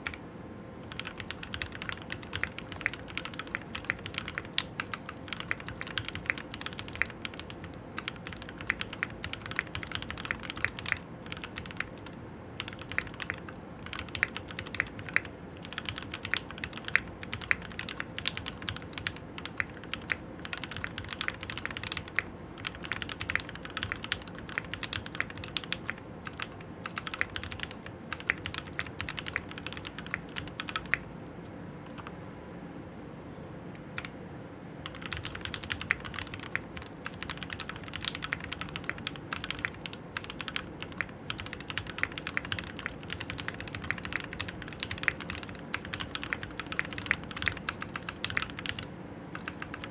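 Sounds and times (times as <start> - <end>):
fast typing on mechanical keyboard: 0.8 - 31.0, 31.9 - 32.1, 34.8 - 49.9.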